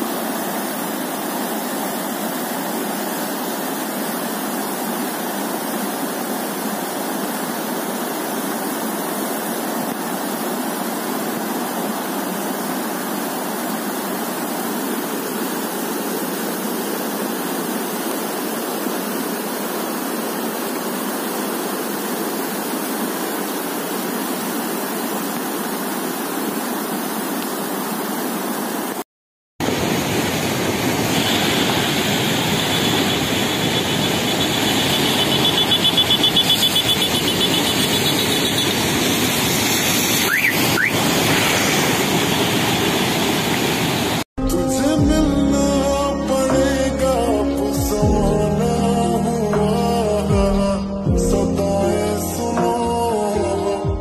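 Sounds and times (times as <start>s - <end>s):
flooded river rushing: 0.0s - 29.0s, 29.6s - 44.3s.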